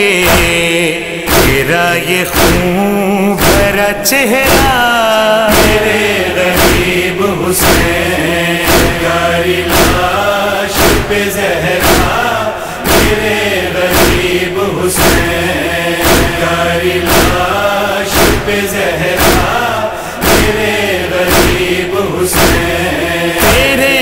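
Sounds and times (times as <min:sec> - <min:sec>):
heavy chest-beating strokes: 0:00.0 - 0:04.9, 0:05.5 - 0:24.0
chorus chanting a lament: 0:00.0 - 0:24.0.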